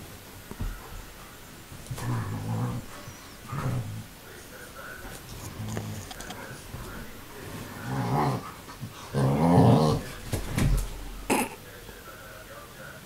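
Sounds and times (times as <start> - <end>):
dogs play-growling: 0.6 - 11.3.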